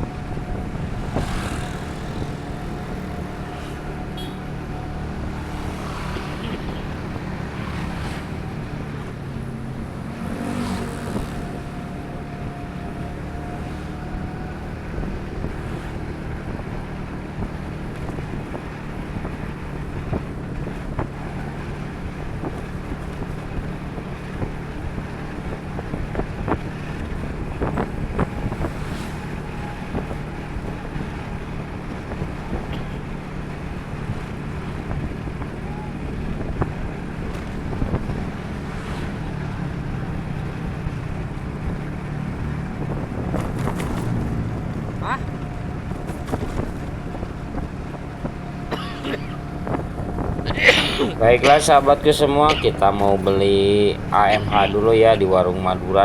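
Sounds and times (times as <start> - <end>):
wind buffeting microphone: 0.0 - 54.2
vehicle engine and road noise: 0.0 - 56.0.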